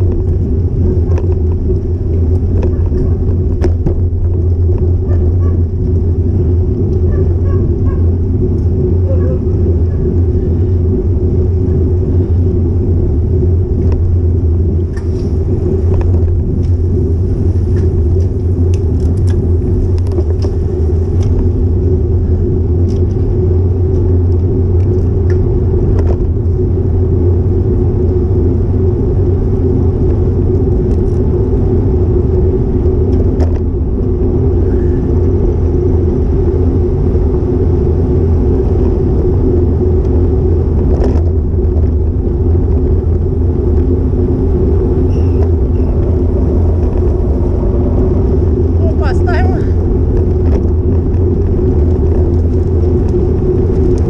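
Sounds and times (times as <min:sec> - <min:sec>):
road vibration: 0:00.0 - 0:54.0
wind buffeting microphone: 0:00.0 - 0:54.0.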